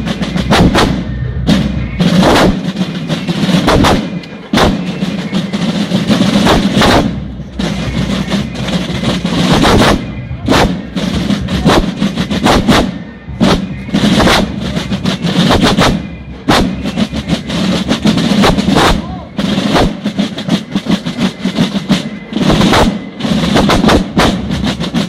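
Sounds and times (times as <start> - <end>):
marching drums rolling: 0.0 - 25.0.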